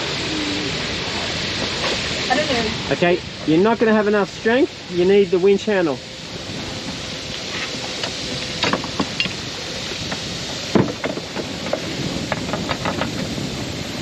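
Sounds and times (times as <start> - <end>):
wind and water hiss: 0.0 - 14.0.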